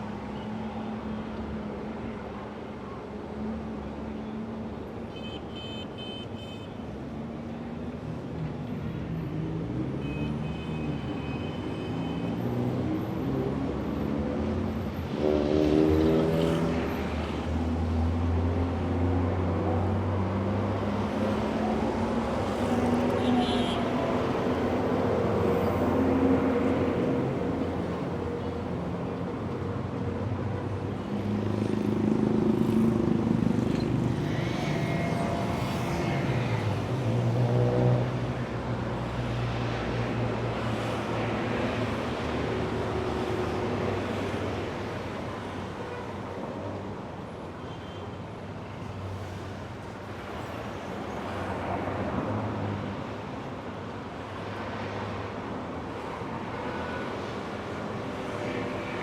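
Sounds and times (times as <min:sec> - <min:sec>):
traffic roar: 0:00.0 - 0:59.0.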